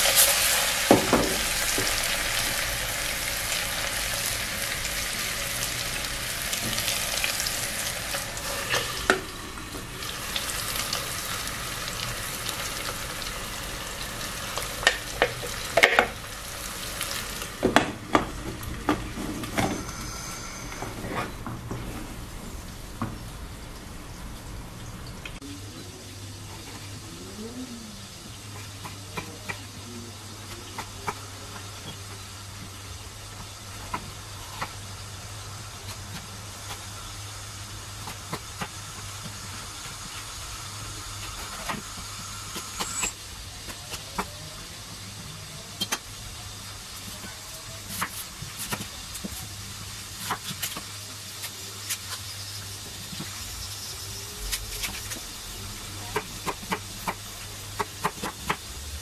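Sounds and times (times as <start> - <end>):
low hum and hiss: 0.0 - 59.0.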